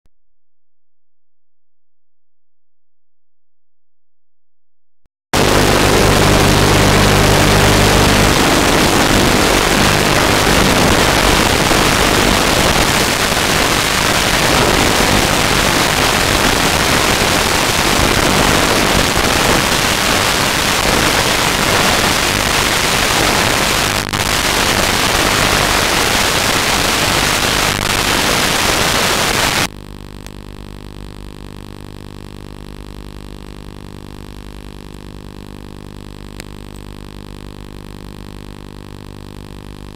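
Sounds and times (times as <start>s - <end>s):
static hiss: 5.4s - 39.9s
steady multi-tone hum: 5.4s - 39.9s.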